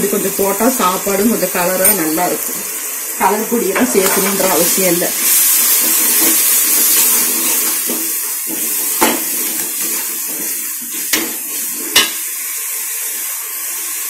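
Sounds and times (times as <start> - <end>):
masala sizzling in hot oil: 0.0 - 14.0.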